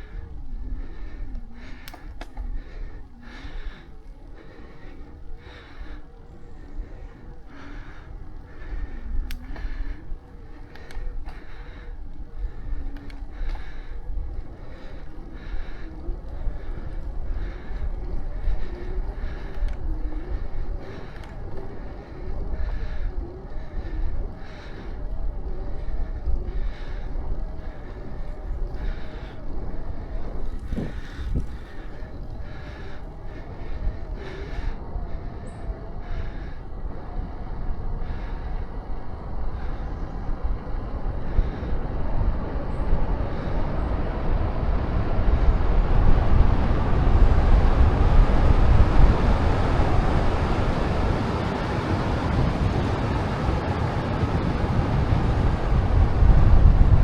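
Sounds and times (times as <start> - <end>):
bicycle tyre noise: 0.0 - 57.0
wind rushing over microphone: 0.0 - 57.0.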